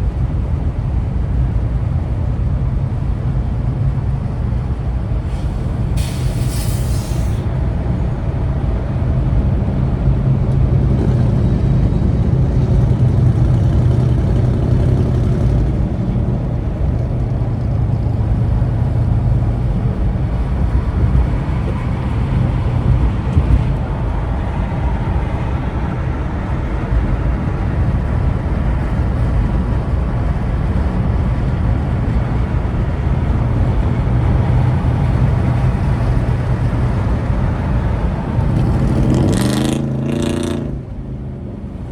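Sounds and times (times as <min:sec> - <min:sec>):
road noise: 0:00.0 - 0:41.9
vehicle engine running: 0:00.0 - 0:41.9.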